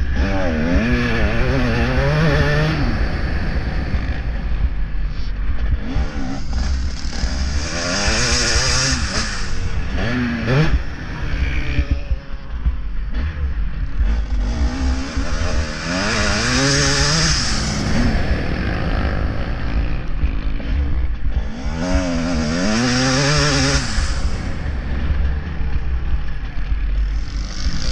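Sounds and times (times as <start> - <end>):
motocross bike engine racing: 0.0 - 27.9.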